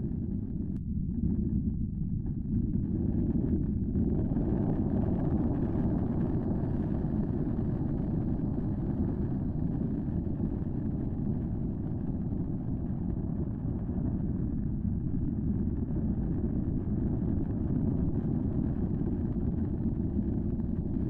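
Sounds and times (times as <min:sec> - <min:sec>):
low volcanic rumble: 0:00.0 - 0:21.0.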